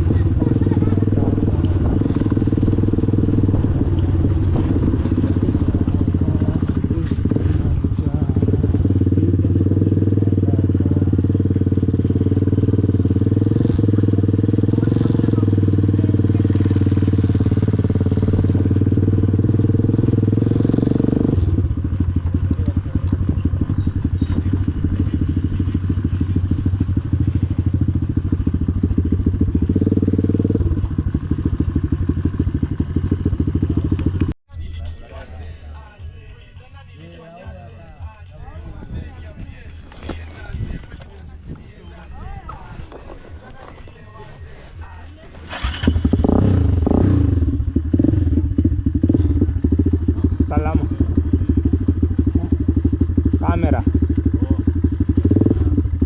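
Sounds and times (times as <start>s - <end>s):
motorcycle engine running: 0.0s - 34.4s, 38.1s - 56.0s.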